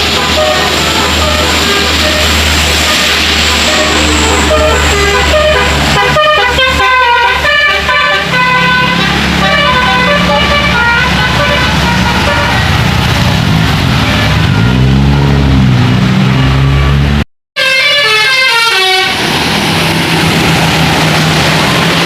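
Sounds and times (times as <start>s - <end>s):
bus horns playing a melody: 0.0s - 12.9s, 14.0s - 15.6s, 16.2s - 19.4s
bus engine running: 0.0s - 17.2s, 17.9s - 22.0s.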